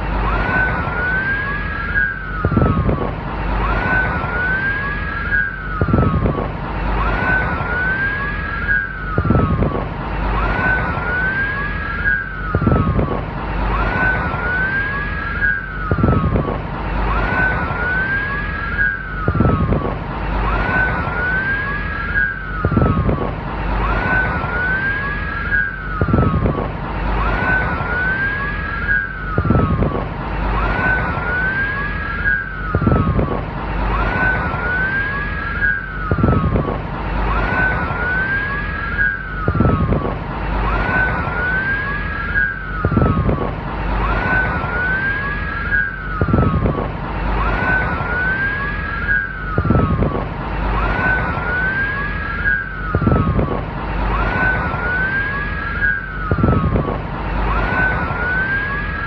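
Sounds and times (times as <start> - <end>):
low rumble: 0.0 - 59.0.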